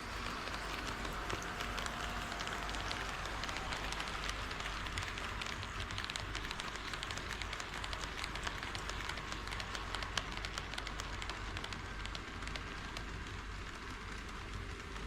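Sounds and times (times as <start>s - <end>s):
model train wheels rattling on track: 0.0s - 15.0s.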